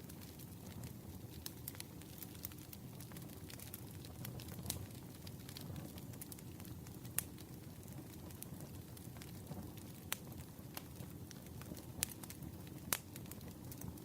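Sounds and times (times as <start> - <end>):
low rush of flames: 0.0 - 14.0
wood crackling pops: 0.1 - 7.4, 8.3 - 14.0.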